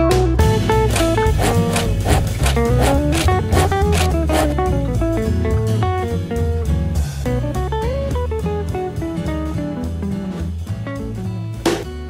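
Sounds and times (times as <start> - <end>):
plucked guitar melody: 0.0 - 12.0
steady bass line: 0.0 - 12.0.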